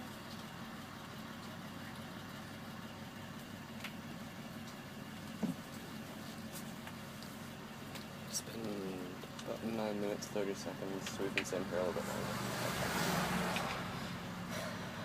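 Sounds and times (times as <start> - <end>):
bus engine idling: 0.0 - 12.6, 13.3 - 15.0.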